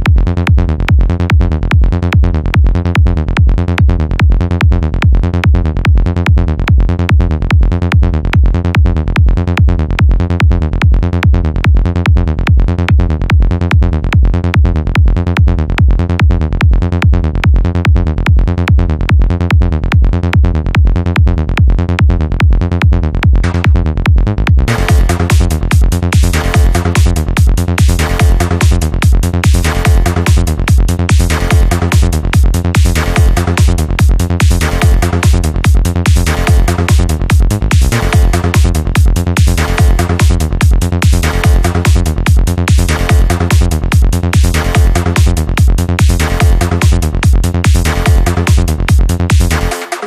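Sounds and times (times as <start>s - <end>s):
kick drum: 0.0s - 49.7s
psytrance music: 0.0s - 50.0s
rolling bassline: 0.0s - 50.0s.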